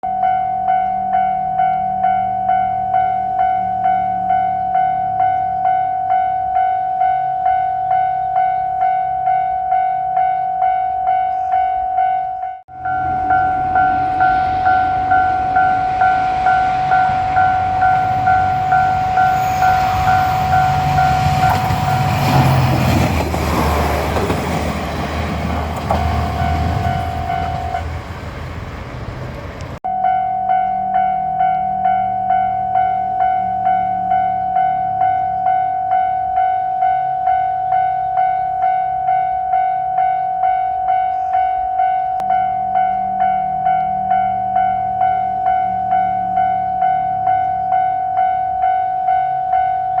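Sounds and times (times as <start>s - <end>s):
level-crossing bell clanging: 0.0s - 50.0s
diesel railcar passing: 0.1s - 50.0s.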